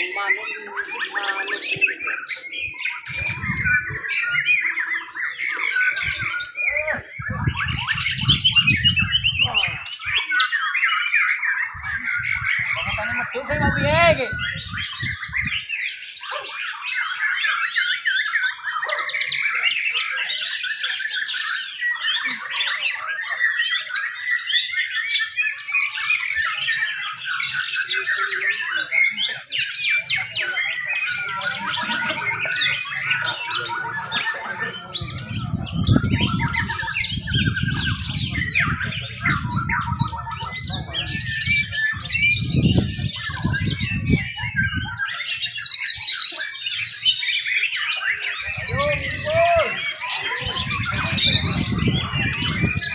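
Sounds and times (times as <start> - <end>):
birds singing whistles and trills: 0.0 - 52.9.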